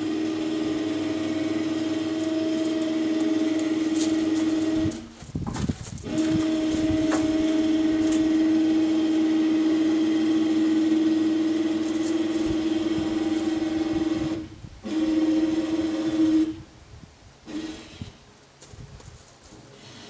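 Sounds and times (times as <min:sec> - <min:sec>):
electric winch motor humming: 0:00.0 - 0:05.1, 0:06.0 - 0:16.6, 0:17.5 - 0:18.2, 0:19.8 - 0:20.0.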